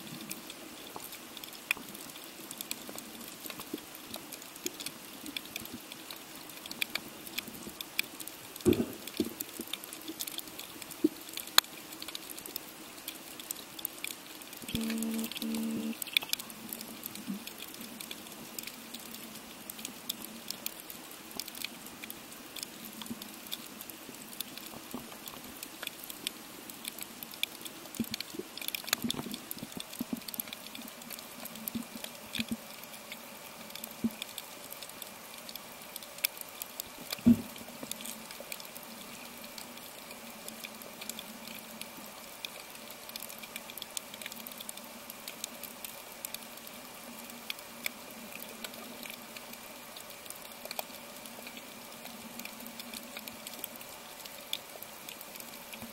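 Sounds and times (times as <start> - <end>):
faint steady hum: 0.0 - 55.9
snapping shrimp crackle: 0.1 - 55.9.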